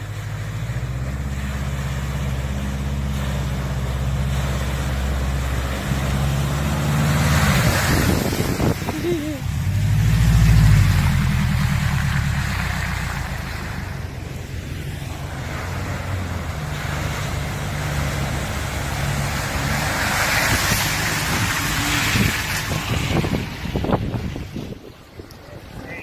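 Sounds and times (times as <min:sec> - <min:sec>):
engine running at low revs: 0:00.0 - 0:26.0.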